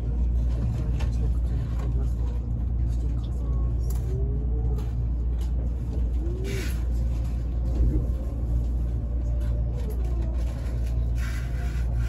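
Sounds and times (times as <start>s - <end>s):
electric train low rumble: 0.0s - 12.0s
faint train whine: 0.0s - 12.0s.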